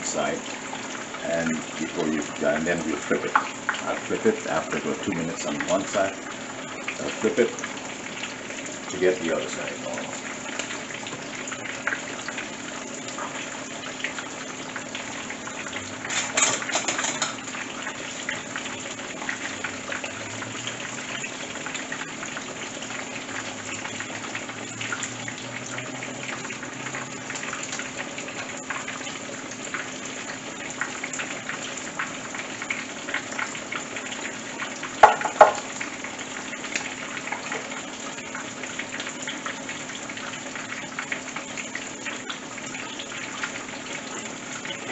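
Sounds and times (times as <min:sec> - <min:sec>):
fish deep-frying in oil: 0:00.0 - 0:44.9.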